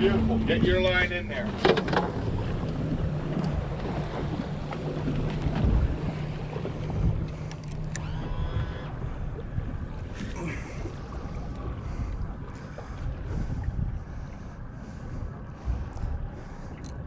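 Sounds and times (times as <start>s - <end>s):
boat engine humming: 0.0s - 17.0s
wind buffeting microphone: 0.0s - 17.0s.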